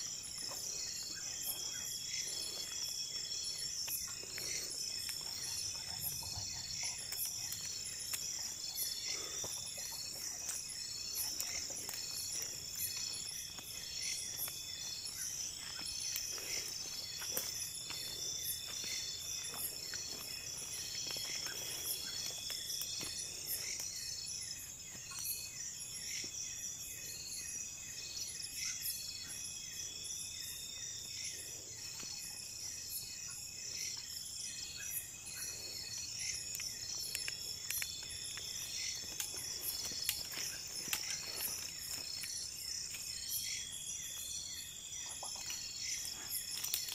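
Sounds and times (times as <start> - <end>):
crickets and insects chirping: 0.0 - 46.9.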